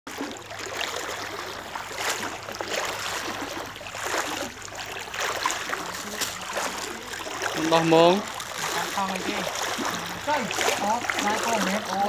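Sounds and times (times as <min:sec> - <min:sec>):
people wading through water: 0:00.1 - 0:12.0.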